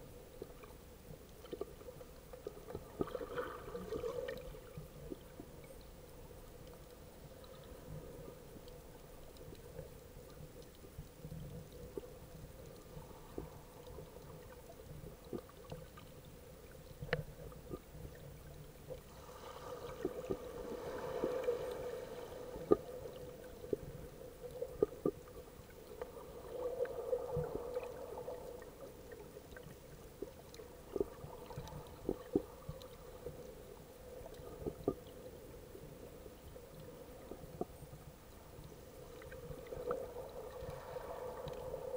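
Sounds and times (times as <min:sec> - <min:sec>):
muffled underwater water movement: 0:00.0 - 0:41.9.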